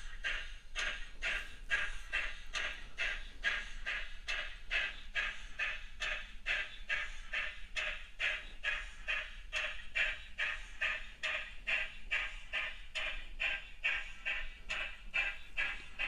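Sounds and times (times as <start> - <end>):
steam locomotive exhaust chuff: 0.0 - 16.0.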